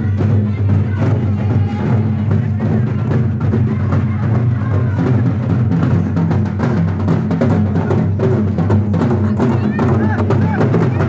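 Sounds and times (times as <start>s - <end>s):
kettle drums beating: 0.0s - 11.0s.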